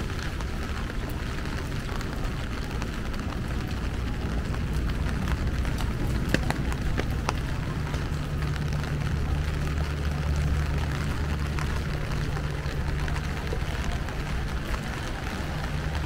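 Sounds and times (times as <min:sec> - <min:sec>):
low traffic rumble: 0:00.0 - 0:16.0
steady rain falling: 0:00.0 - 0:16.0.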